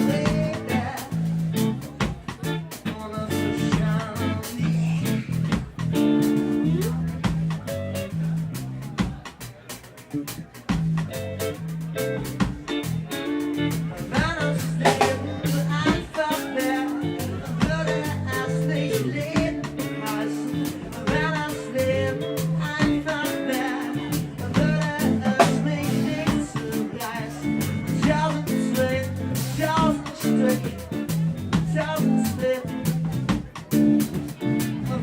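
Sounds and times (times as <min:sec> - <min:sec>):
person singing: 0:00.0 - 0:07.6, 0:11.5 - 0:35.0
live band playing: 0:00.0 - 0:35.0.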